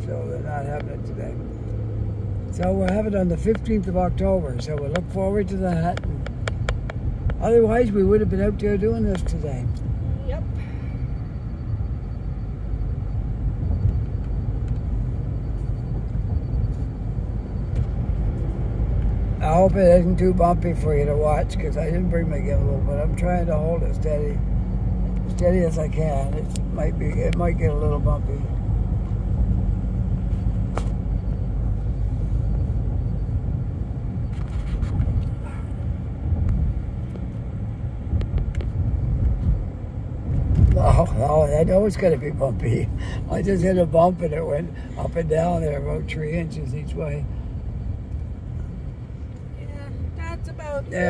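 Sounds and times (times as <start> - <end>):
road and engine rumble in cabin: 0.0 - 51.0.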